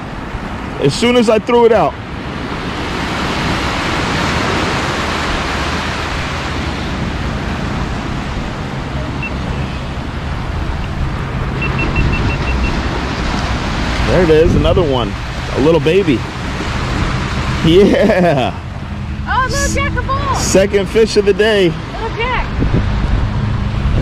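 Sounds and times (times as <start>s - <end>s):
surf washing onto sandy beach: 0.0s - 23.9s
wind noise: 1.9s - 20.9s, 21.8s - 24.0s.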